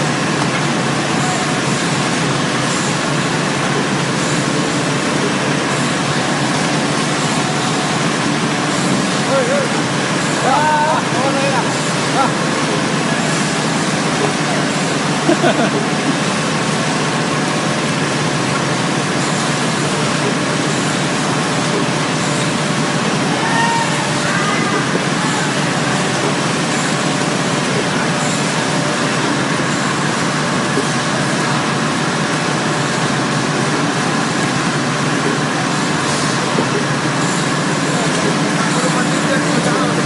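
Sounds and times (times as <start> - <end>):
packing machine running: 0.0 - 40.0.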